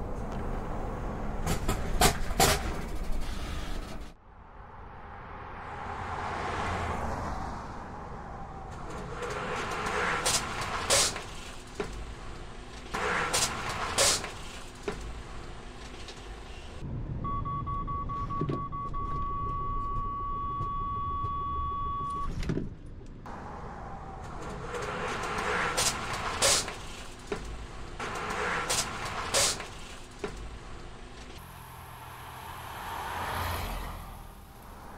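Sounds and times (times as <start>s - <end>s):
truck and cars driving: 0.0s - 34.9s.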